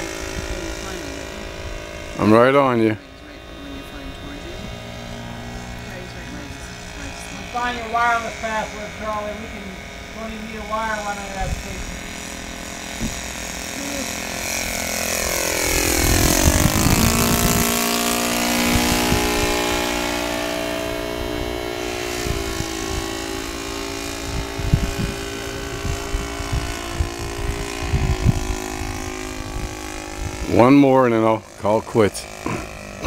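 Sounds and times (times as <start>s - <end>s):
model airplane engine droning: 0.0s - 33.0s.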